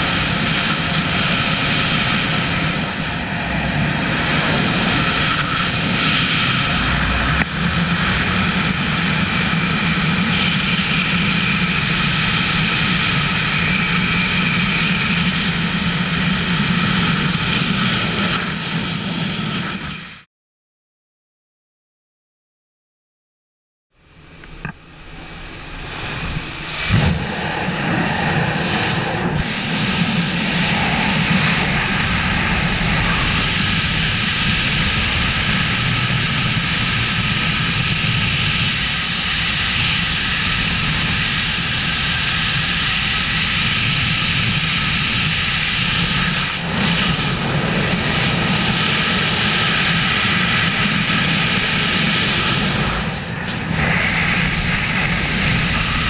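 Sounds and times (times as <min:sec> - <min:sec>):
wind rushing over microphone: 0:00.0 - 0:20.2, 0:24.0 - 0:56.0.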